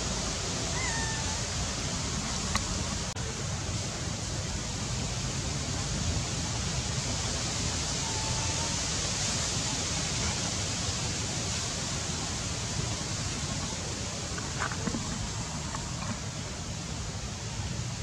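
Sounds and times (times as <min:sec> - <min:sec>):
even hiss: 0:00.0 - 0:18.0.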